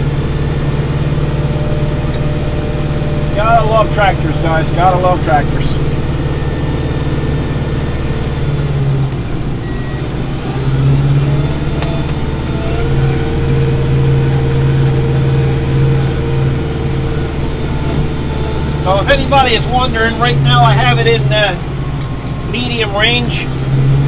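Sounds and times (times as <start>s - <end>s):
steady whine: 0.0s - 24.0s
tractor diesel engine running: 0.0s - 24.0s.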